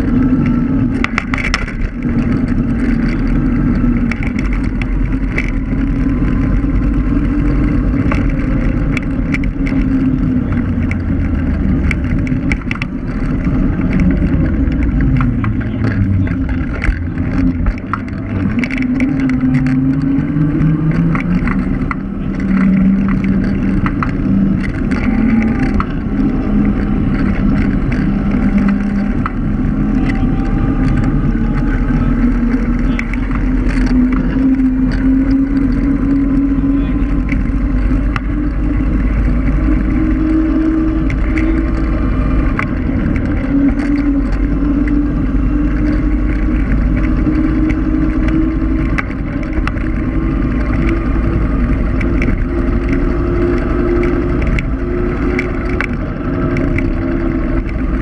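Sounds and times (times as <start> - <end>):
electric scooter motor whine: 0.0 - 58.0
rattling clicks from road: 0.0 - 58.0
tyres and wind rumble: 0.0 - 58.0.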